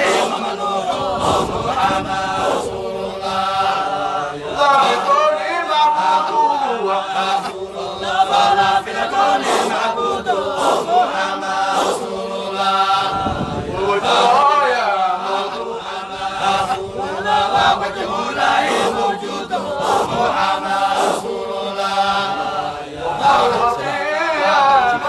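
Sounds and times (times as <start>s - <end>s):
group of voices chanting: 0.0s - 25.0s.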